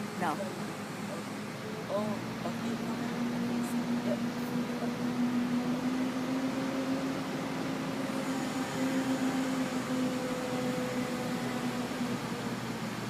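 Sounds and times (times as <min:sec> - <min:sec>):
machine engine humming: 0:00.0 - 0:13.0.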